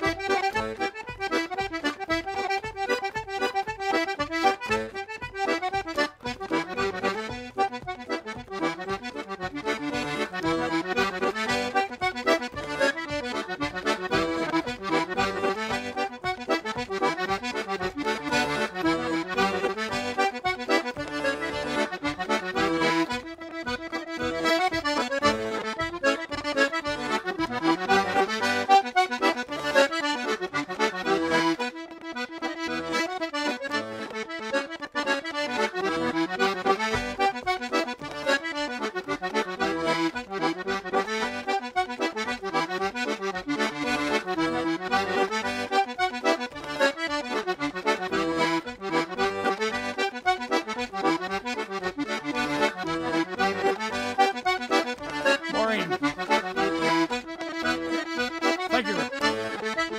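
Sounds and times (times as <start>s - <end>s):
button accordion playing a tune: 0.0s - 59.9s.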